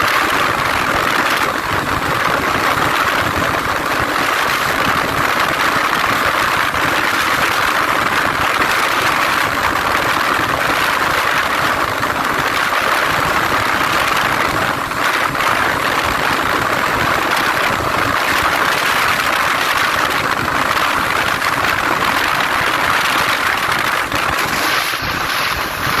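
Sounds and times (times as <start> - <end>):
motorcycle engine running: 0.0 - 26.0
wind rushing: 0.0 - 26.0.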